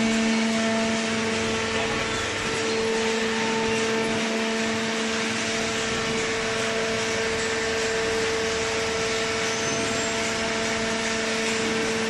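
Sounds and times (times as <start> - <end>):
hydraulic baler power unit running: 0.0 - 12.0.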